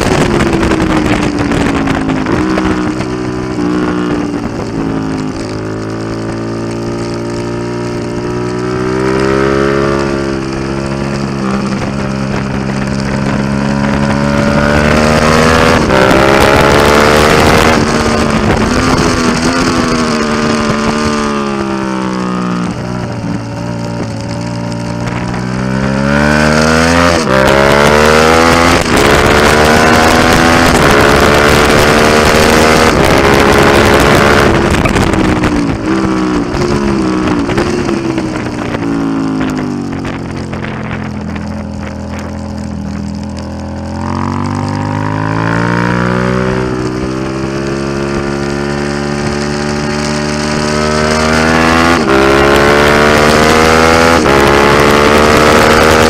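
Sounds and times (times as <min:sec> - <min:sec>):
gear change: 0:00.0 - 0:56.0
motorcycle engine revving: 0:00.0 - 0:56.0
wind rush: 0:00.0 - 0:56.0.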